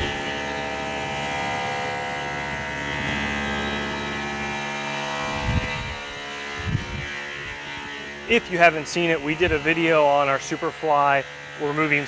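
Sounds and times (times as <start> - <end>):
milling machine spindle humming: 0.0 - 12.0.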